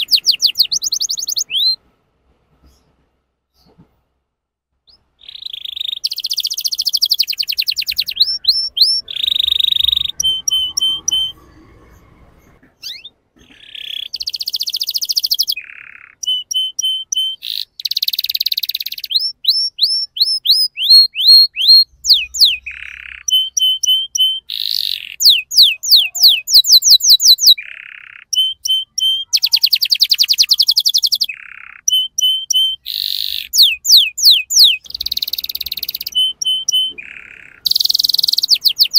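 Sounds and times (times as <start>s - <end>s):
canary singing trills: 0.0s - 1.8s, 4.9s - 38.9s.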